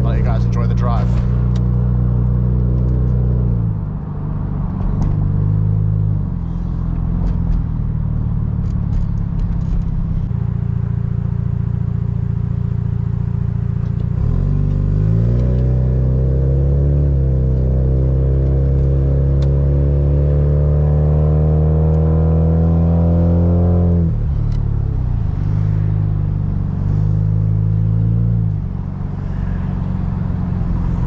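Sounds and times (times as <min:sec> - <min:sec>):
car engine while driving: 0:00.0 - 0:31.0.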